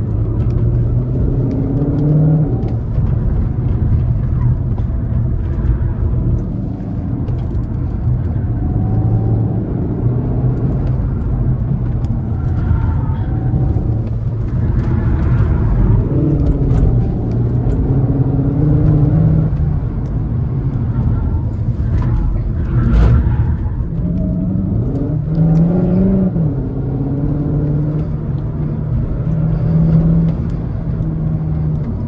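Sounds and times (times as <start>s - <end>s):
car engine revving through gears: 0.0s - 32.0s
road and tyre rumble: 0.0s - 32.0s.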